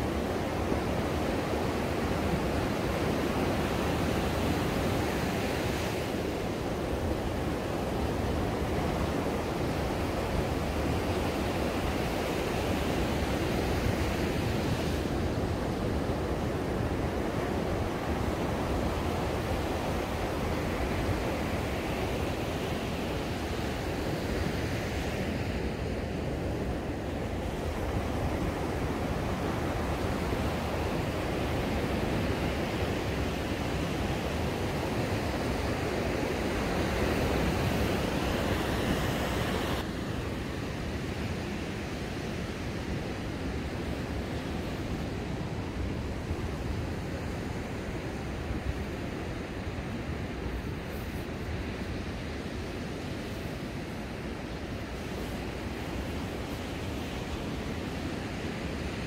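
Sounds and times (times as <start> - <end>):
surf washing up a beach: 0.0 - 59.0.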